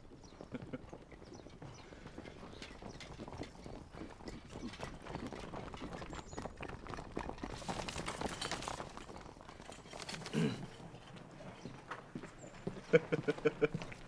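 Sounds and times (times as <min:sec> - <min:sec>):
horse hooves on dirt: 0:00.0 - 0:14.0.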